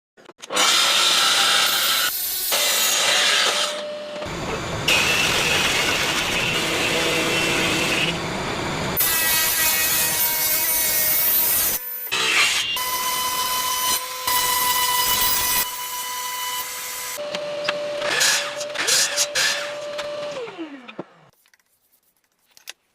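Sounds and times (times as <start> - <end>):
power tools cutting wood: 0.4 - 21.3.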